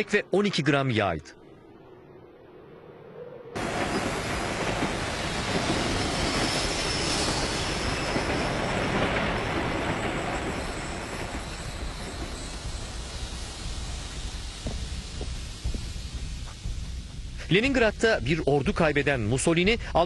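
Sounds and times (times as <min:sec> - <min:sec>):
train wheels rumbling on rails: 0:03.6 - 0:20.0.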